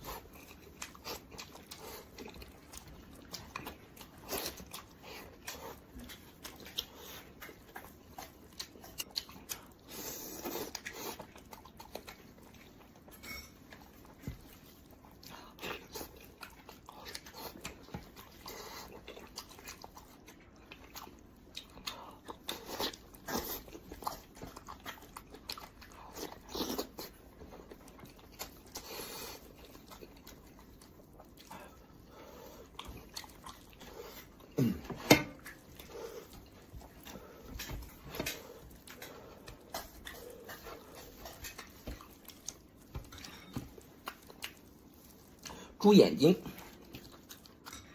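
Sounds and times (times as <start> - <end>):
chewing and biting: 0.0 - 45.8, 46.4 - 47.9.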